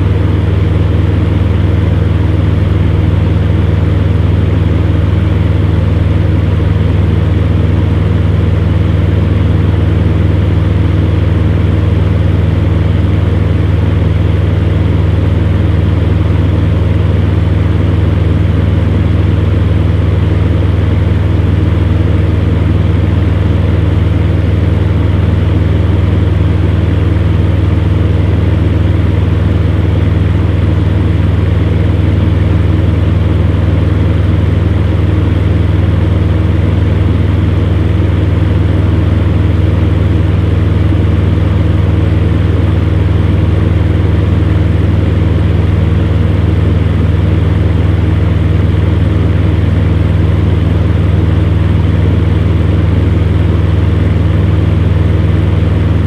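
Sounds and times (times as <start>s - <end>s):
electric fan heater running: 0.0s - 56.0s.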